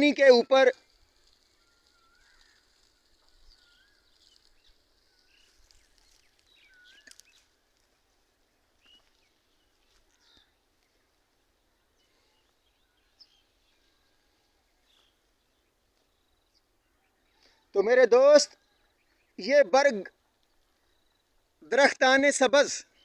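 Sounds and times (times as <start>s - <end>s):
small birds chirping: 0.0s - 22.1s, 22.8s - 23.0s.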